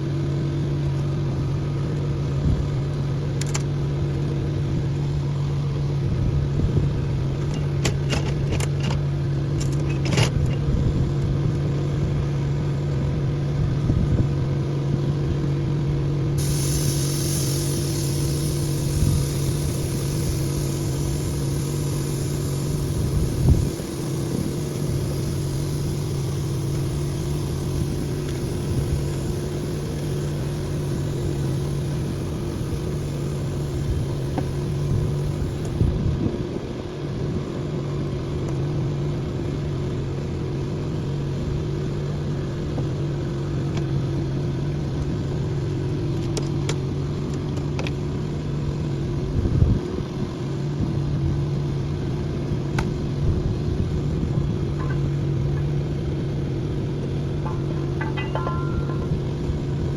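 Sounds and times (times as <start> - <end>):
engine humming: 0.0 - 47.9, 51.5 - 59.9.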